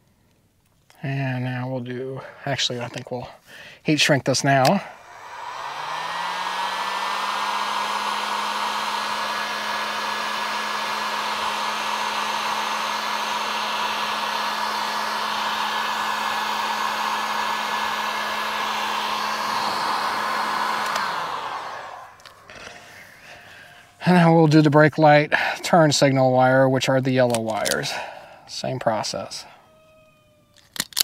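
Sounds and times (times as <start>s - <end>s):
heat gun fan whirring hiss: 1.3s - 31.0s.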